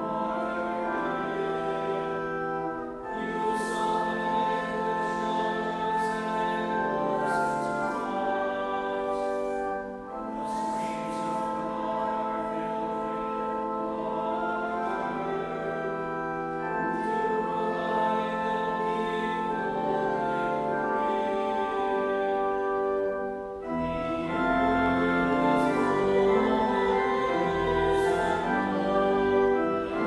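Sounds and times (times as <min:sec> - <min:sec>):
congregation singing in unison: 0:00.0 - 0:30.0
organ: 0:00.0 - 0:30.0.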